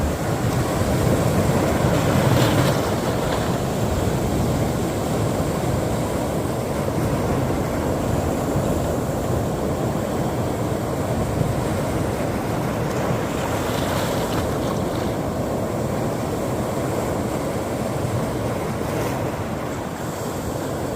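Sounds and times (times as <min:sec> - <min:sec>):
sea waves washing on shore: 0:00.0 - 0:20.9.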